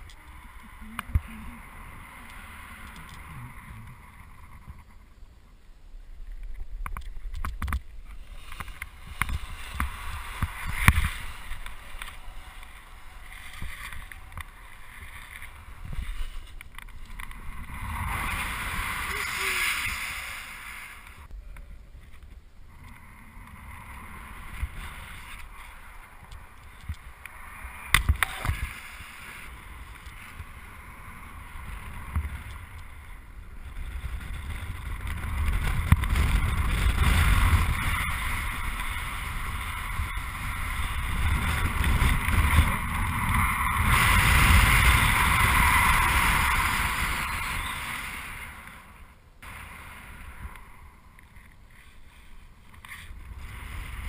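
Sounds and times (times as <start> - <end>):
wind rushing over microphone: 6.1 - 51.5.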